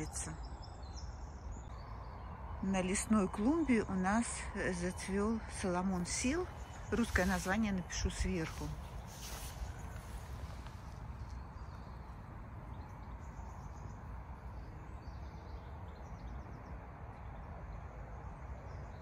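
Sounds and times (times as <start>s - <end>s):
distant bird chirps: 0.0s - 19.0s
steady low rumble: 0.0s - 19.0s.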